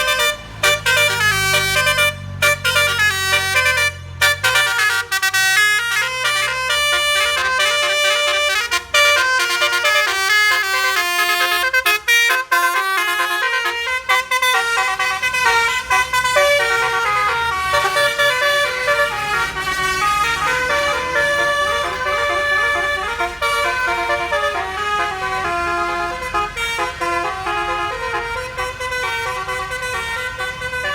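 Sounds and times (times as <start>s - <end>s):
bus engine running: 0.0s - 30.9s
musical bus air horn: 0.0s - 30.9s.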